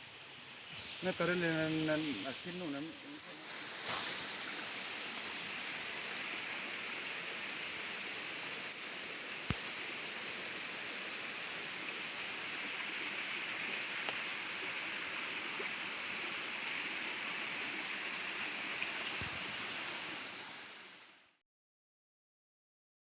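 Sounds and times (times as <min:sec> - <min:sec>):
stream water rushing: 0:00.3 - 0:21.2.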